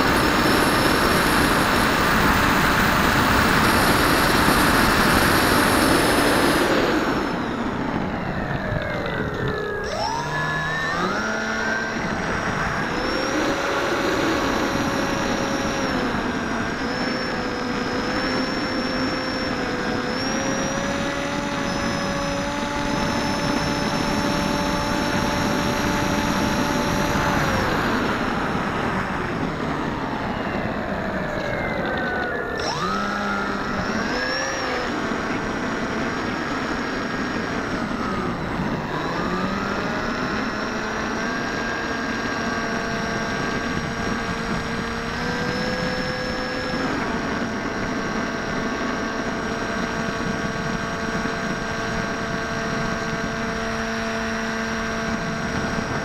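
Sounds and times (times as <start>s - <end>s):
electric motor and propeller whining: 0.0s - 56.0s.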